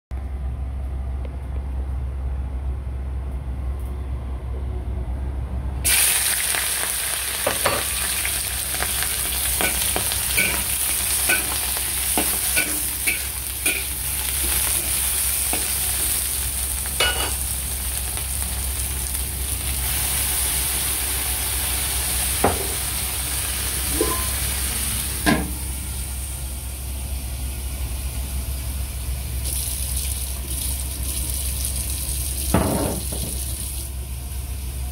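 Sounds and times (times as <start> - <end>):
steady low hum: 0.1 - 5.9, 7.5 - 34.9
shrimp sizzling in a wok: 5.9 - 27.1, 27.7 - 34.8.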